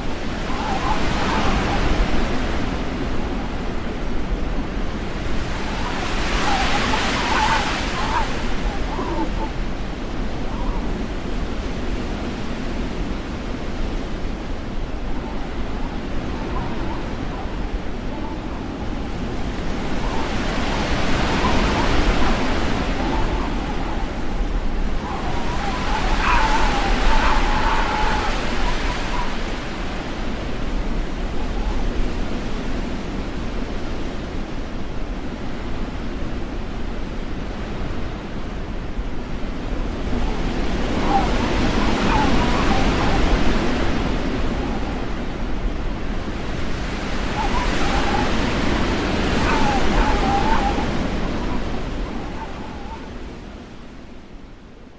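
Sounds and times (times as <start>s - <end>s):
strong wind buffeting microphone: 0.0s - 54.2s.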